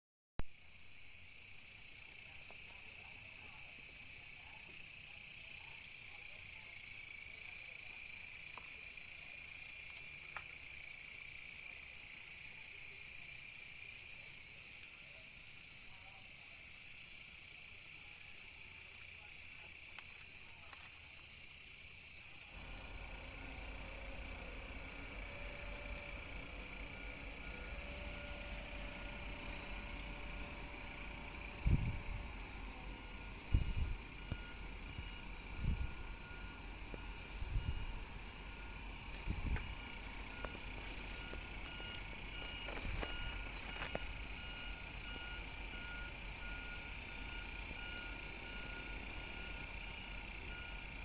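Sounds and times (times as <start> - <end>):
insects trilling: 0.5 - 51.0.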